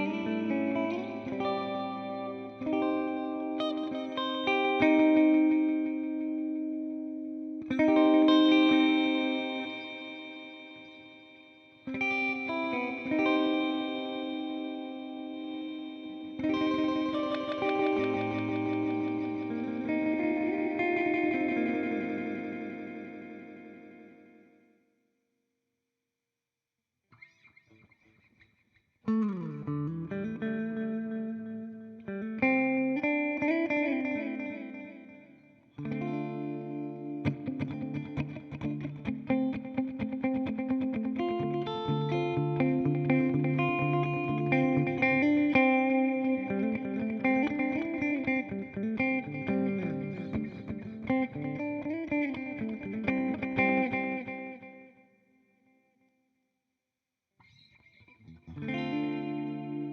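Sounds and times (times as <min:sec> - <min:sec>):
electric guitar chords with delay: 0:00.0 - 0:24.8, 0:29.1 - 0:55.1, 0:57.4 - 0:59.9.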